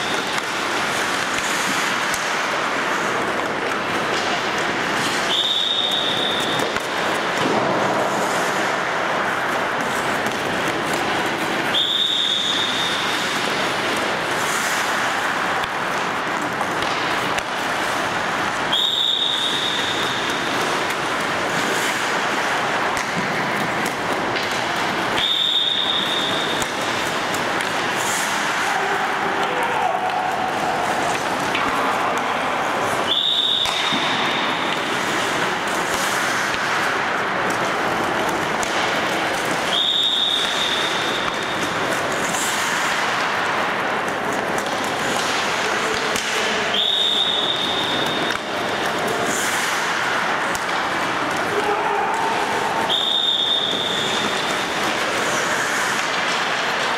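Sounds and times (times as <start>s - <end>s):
hockey stick or puck knock: 0.0s - 56.9s
skates scraping across ice: 0.0s - 56.9s.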